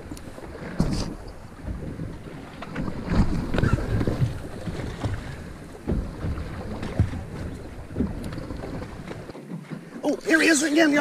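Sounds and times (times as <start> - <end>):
water splashing at hull: 0.0 - 11.0.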